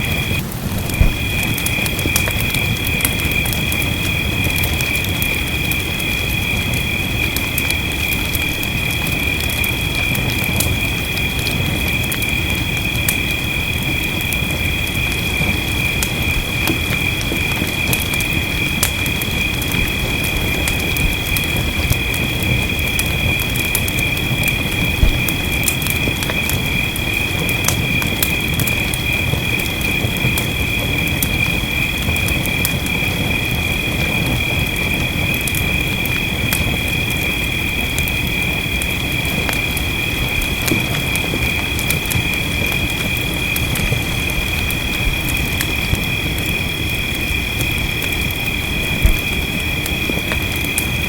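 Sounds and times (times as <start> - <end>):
fireplace crackling: 0.0 - 51.0
low rumble of fire: 0.0 - 51.0
rain: 0.0 - 51.0
steady hiss: 0.0 - 51.0.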